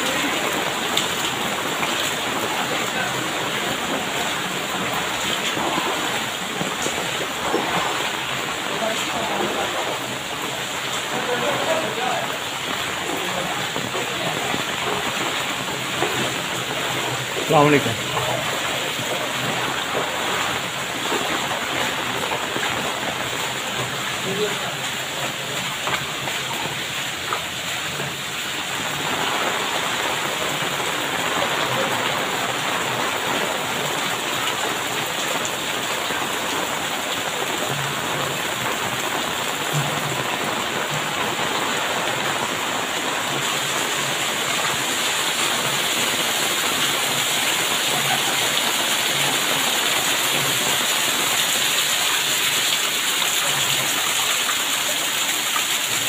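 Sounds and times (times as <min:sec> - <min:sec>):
heavy rain splashing into water: 0:00.0 - 0:56.0.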